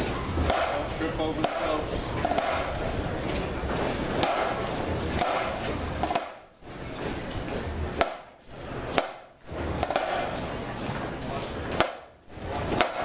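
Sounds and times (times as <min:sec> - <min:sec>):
crowd and street noise: 0:00.0 - 0:13.0.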